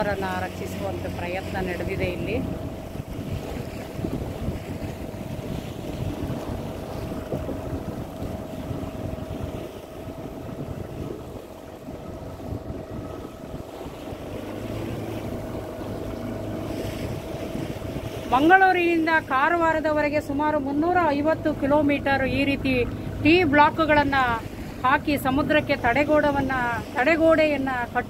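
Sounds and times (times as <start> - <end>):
boat engine running: 0.0 - 28.0
wind buffeting microphone: 0.0 - 28.0.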